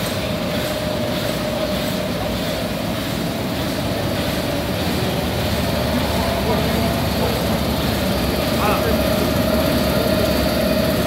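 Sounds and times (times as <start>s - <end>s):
machine rollers whirring with hum: 0.0s - 11.0s.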